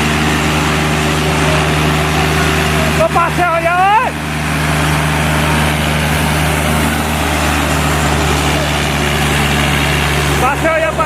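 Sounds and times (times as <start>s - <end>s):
diesel tractor engines droning: 0.0s - 11.0s.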